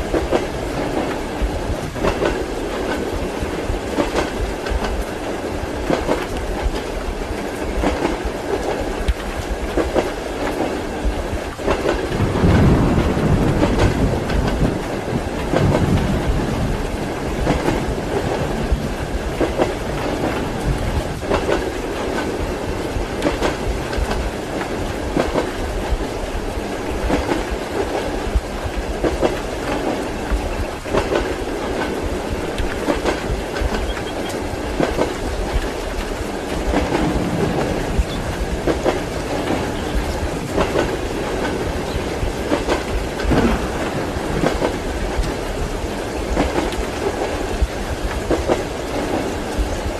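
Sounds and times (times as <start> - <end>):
rain hiss: 0.0 - 49.9
train running rumble: 0.0 - 49.9
train wheels clickety-clack: 0.0 - 49.9.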